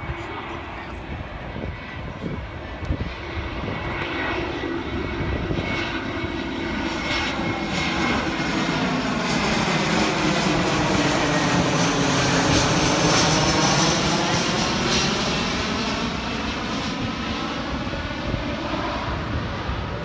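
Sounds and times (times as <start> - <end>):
jet airliner flying overhead: 0.0 - 20.0.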